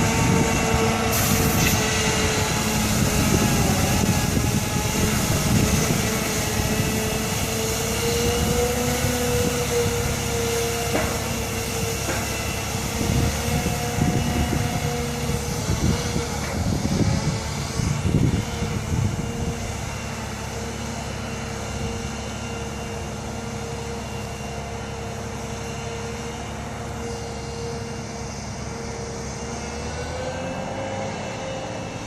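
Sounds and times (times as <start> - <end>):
diesel engine running: 0.0 - 32.0
steady whine: 0.0 - 32.0.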